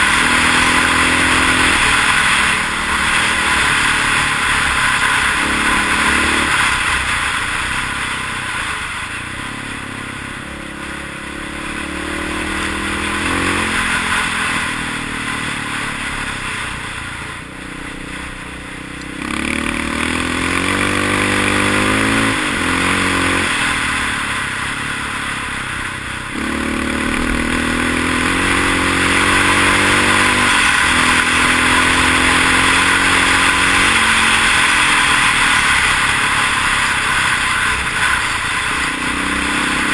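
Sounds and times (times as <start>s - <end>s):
motorcycle engine revving through gears: 0.0s - 39.9s
wind and road hiss: 0.0s - 39.9s.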